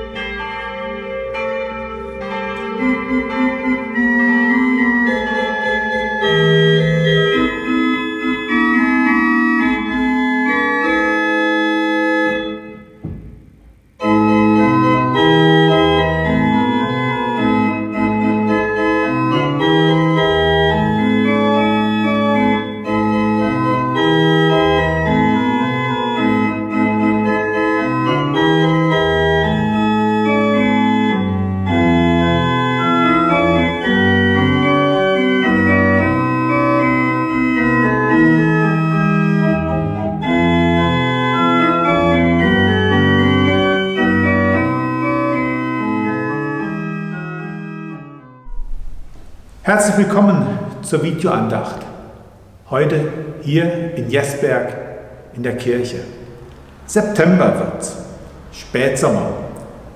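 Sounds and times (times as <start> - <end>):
organ music: 0.0 - 59.9.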